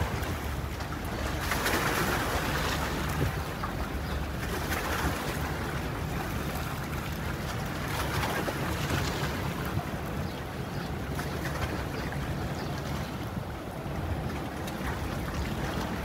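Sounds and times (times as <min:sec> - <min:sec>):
boat engine humming: 0:00.0 - 0:16.0
wind and water hiss: 0:00.0 - 0:16.0.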